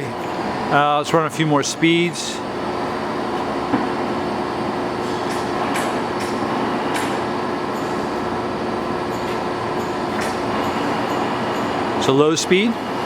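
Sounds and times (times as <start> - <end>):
lathe running with mechanical hum: 0.0 - 13.0.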